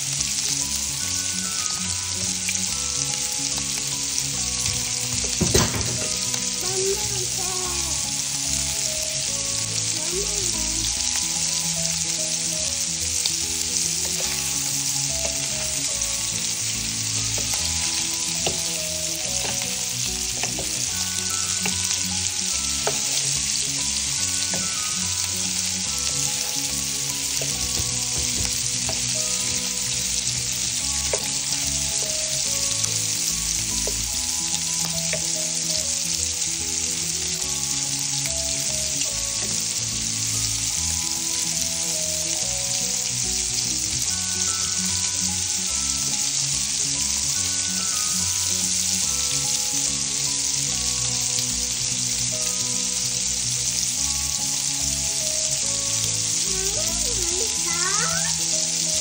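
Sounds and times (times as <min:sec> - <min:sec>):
sausage sizzling in oil: 0:00.0 - 0:59.0.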